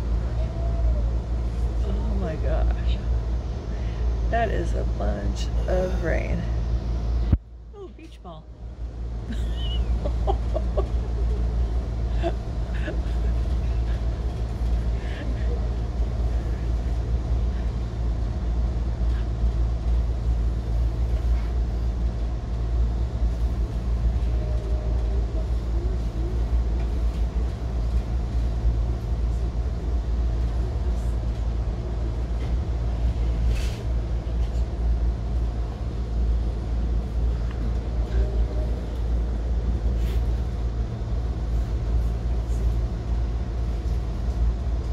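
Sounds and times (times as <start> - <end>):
train rumbling on rails: 0.0 - 44.9.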